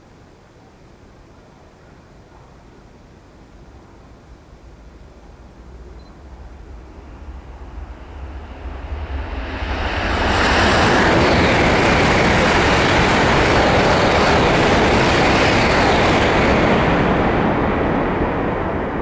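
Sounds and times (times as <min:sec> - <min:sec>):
high-speed train passing: 0:01.8 - 0:19.0.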